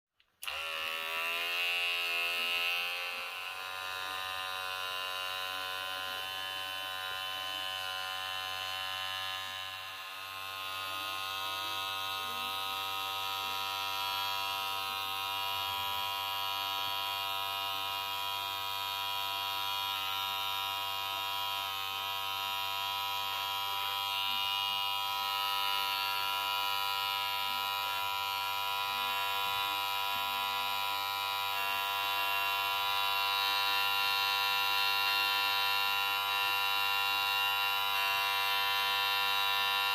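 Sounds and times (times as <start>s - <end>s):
hair clipper buzzing: 0.2s - 39.9s.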